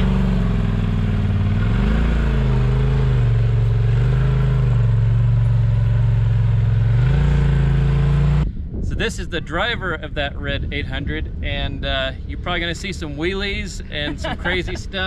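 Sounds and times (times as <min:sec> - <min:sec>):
vehicle engine at low revs: 0:00.0 - 0:15.0.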